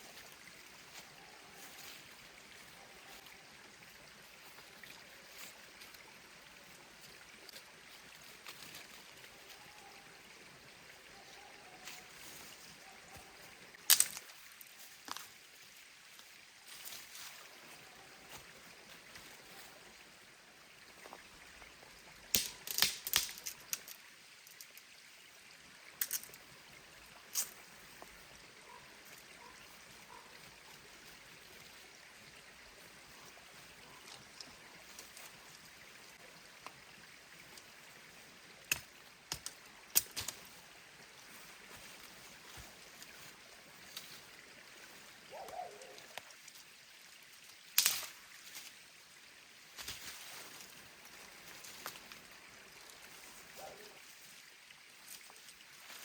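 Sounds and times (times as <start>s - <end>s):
small stream running: 0.0s - 56.0s.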